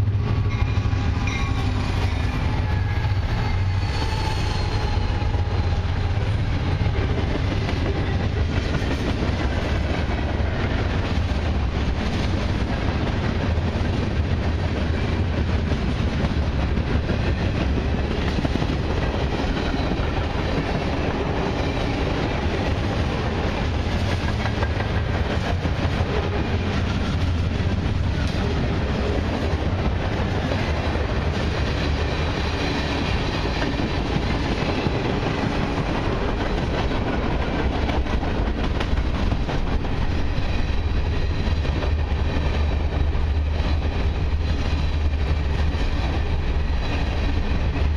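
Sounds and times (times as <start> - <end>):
steel wheels rumbling on rail: 0.0 - 47.9.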